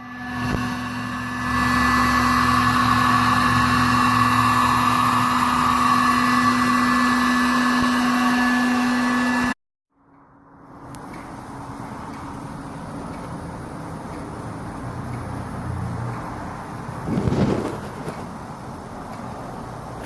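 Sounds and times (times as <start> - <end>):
electric fan motor humming: 0.0 - 9.6, 10.6 - 20.0.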